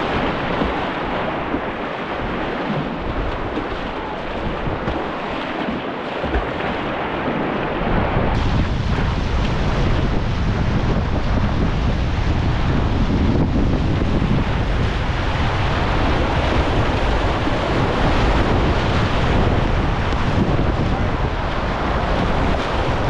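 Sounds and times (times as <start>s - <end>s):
whitewater rapids rushing: 0.0s - 23.0s
wind buffeting microphone: 0.0s - 23.0s.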